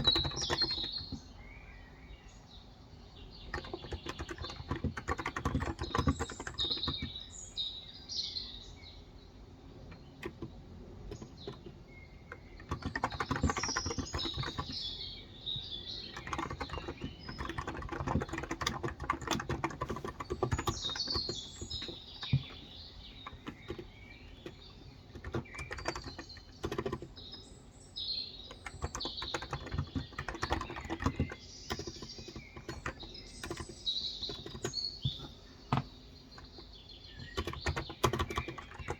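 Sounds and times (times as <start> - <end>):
keyboard typing: 0.0 - 1.3, 3.4 - 7.3, 9.8 - 27.4, 28.4 - 38.9
small birds chirping: 0.0 - 38.9.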